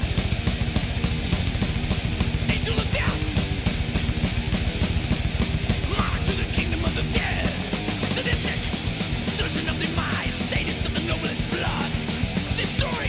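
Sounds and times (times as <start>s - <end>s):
heavy metal music: 0.0s - 13.0s.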